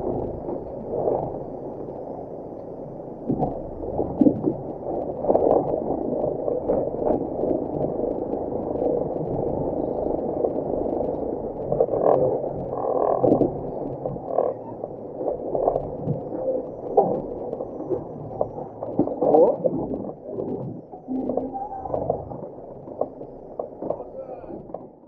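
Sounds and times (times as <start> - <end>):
engine running at low revs: 0.0 - 24.5.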